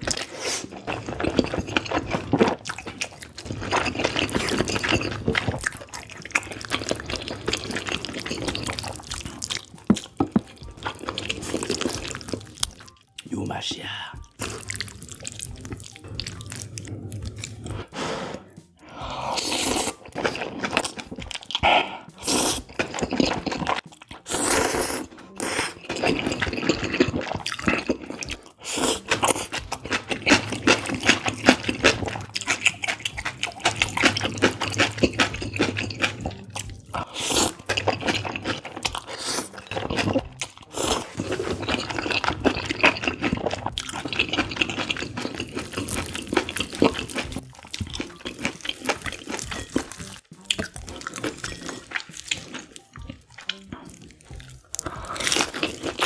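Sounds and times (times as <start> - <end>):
slurping noodles: 0.0 - 12.6, 14.3 - 53.6, 54.5 - 56.0
chewing: 0.0 - 56.0.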